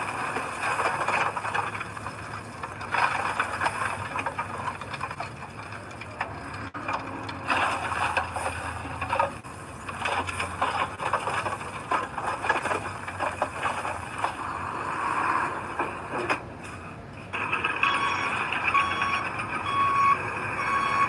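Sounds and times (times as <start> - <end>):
soil and metal scraping: 0.0 - 20.6
diesel engine running: 0.0 - 21.0.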